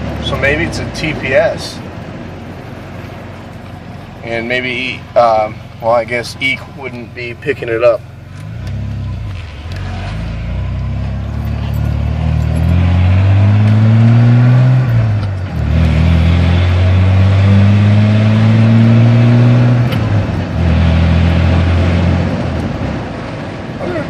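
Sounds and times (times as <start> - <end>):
truck engine pulling under load: 0.0 - 23.8.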